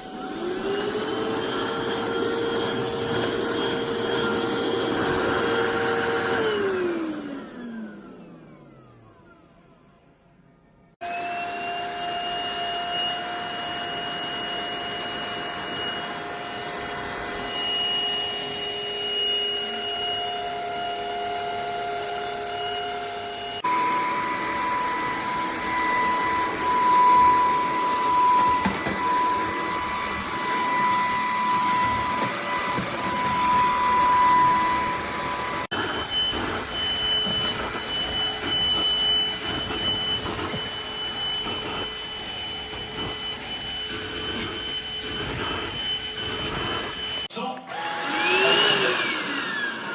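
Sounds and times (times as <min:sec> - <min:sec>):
vacuum cleaner motor whine: 0:00.0 - 0:49.9.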